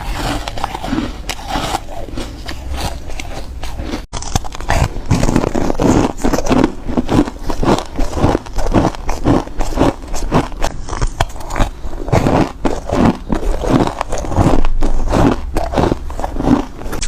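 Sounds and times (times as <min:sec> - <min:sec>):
crunching ice between teeth: 0:00.0 - 0:17.0.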